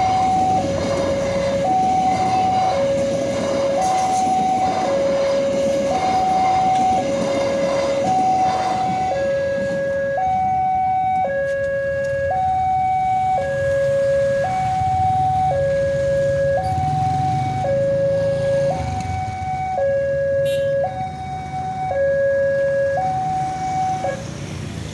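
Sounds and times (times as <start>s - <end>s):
level crossing alarm two-tone signal: 0.0s - 24.2s
train noise: 0.0s - 24.9s.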